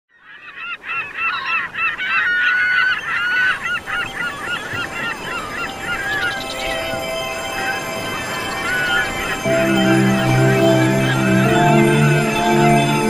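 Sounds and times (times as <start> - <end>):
birds honking: 0.6 - 13.0.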